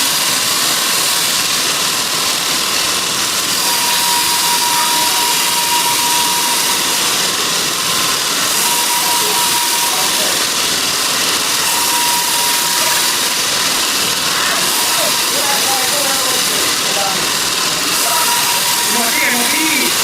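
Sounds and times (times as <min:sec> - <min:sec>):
saw running with high hiss: 0:00.0 - 0:20.0.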